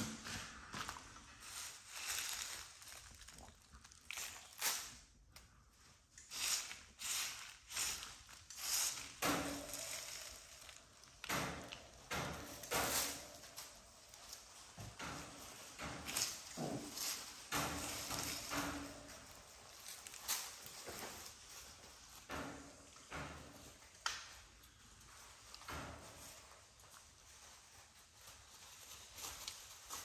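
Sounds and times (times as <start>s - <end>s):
puppies rustling and scratching: 0.0s - 30.0s.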